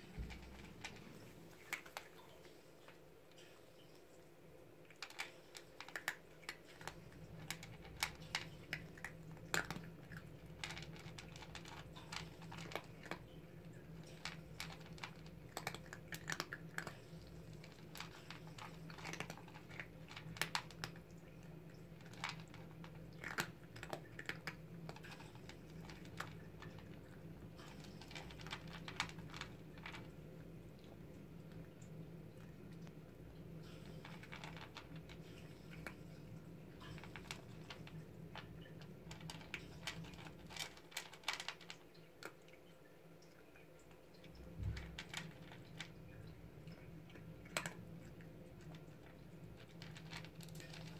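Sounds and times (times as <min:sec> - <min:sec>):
kittens crunching dry kibble: 0:00.0 - 0:50.9.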